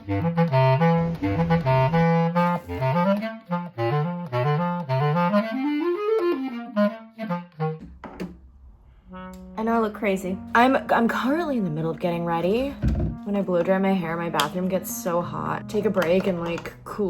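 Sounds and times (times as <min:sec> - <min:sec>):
clarinet melody: 0:00.0 - 0:08.0, 0:09.0 - 0:17.0.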